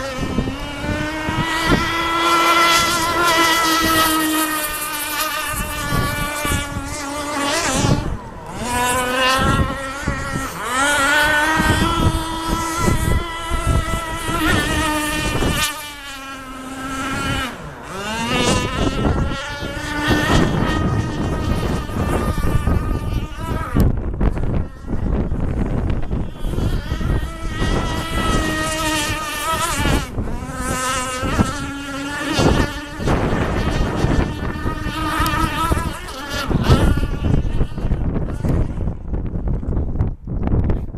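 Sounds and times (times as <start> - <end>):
high-pitched model boat engine buzz: 0.0 - 40.9.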